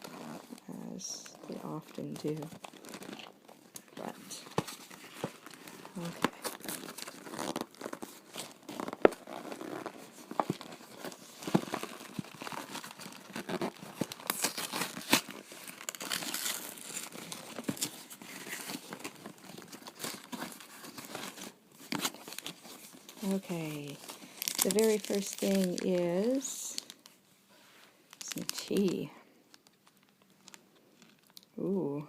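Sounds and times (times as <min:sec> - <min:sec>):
packaging rustling and crinkling: 0:00.0 - 0:31.6
cardboard tearing: 0:01.3 - 0:27.0.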